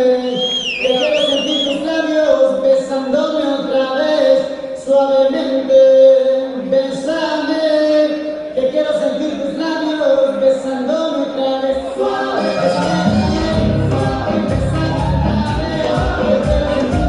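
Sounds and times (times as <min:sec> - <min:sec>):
song with sung vocals: 0:00.0 - 0:17.0.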